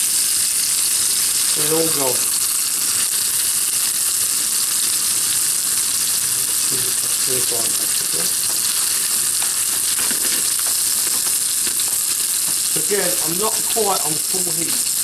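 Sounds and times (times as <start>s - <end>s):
steaks sizzling in a pan: 0.0s - 15.0s.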